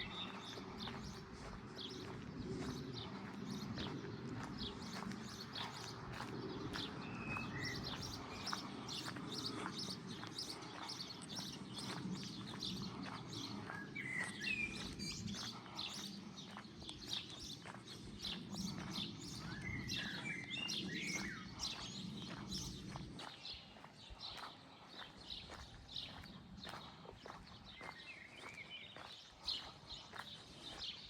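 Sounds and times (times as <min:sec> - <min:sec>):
songbirds chirping: 0:00.0 - 0:31.0.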